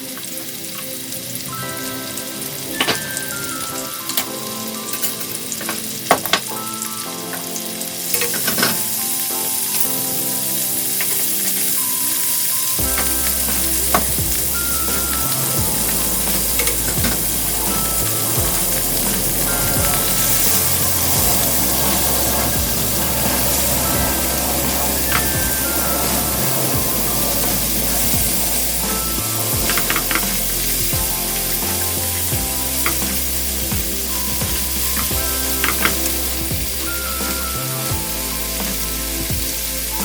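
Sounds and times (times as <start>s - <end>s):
background music: 0.0s - 40.0s
food sizzling in frying pan: 0.0s - 40.0s.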